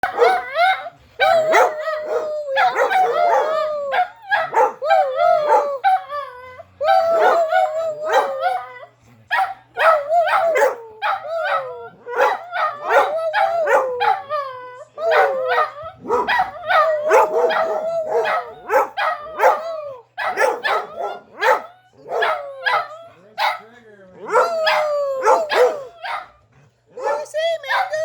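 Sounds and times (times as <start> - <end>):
dog barking and yipping: 0.0 - 6.2, 7.2 - 8.7, 9.3 - 14.4, 15.1 - 23.7, 24.3 - 26.4, 27.0 - 28.0
dog howling: 0.0 - 27.3.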